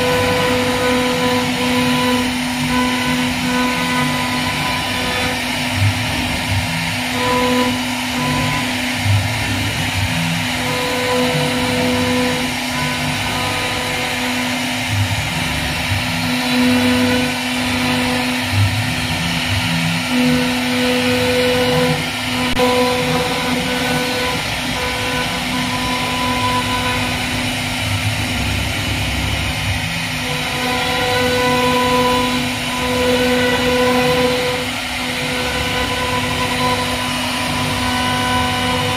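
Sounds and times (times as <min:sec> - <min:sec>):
bit cutting wood: 0:00.0 - 0:38.9
router spindle motor whine: 0:00.0 - 0:38.9.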